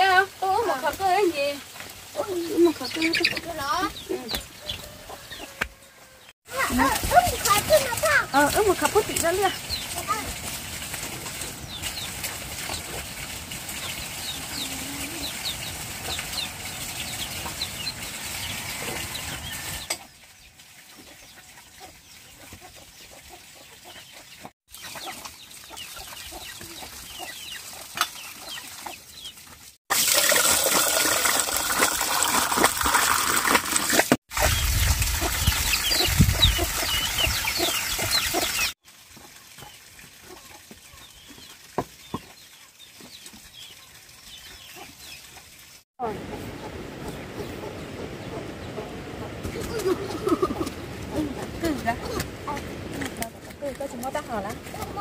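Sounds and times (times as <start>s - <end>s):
chickens clucking and chirping: 2.2s - 10.4s, 11.2s - 29.6s, 34.4s - 52.7s.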